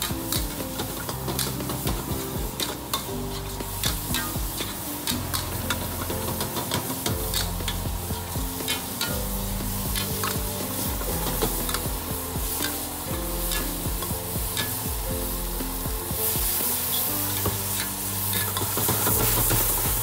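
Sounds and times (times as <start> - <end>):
food sizzling: 0.0 - 20.0
metal spatula scraping wok: 0.2 - 20.0.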